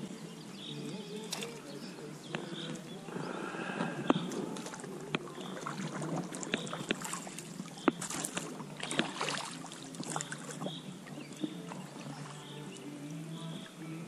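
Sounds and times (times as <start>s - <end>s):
oars splashing water: 0.0s - 14.0s
oars knocking: 0.8s - 12.8s.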